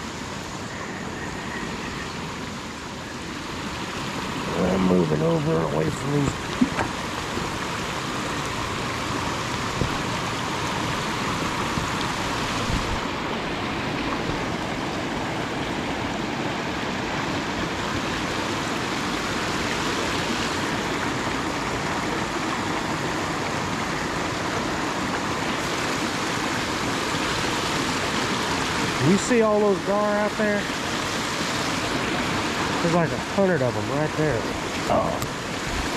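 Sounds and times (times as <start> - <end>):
water rushing over rocks: 0.0 - 35.9.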